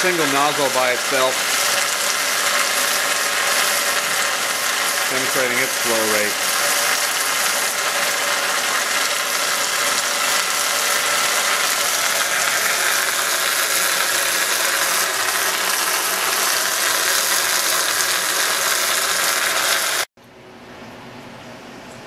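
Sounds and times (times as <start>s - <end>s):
coolant jet splashing on plastic: 0.0s - 20.1s.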